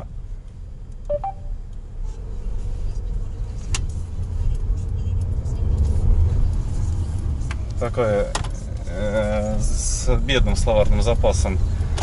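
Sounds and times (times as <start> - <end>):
car rumble from inside cabin: 0.0 - 12.0.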